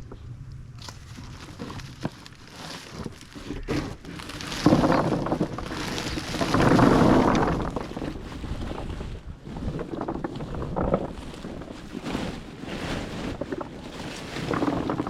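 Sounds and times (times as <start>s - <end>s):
animals crunching sugarcane: 0.6s - 15.0s.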